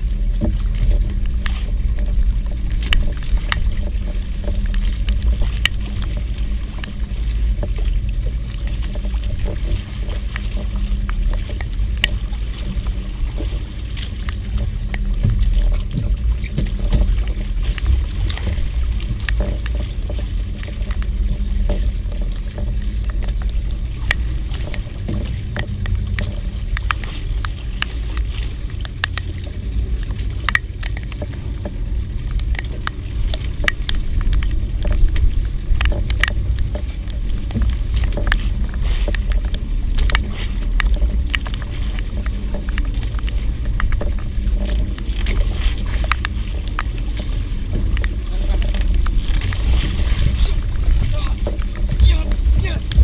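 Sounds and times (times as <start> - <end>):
fishing boat engine rumble: 0.0 - 53.0.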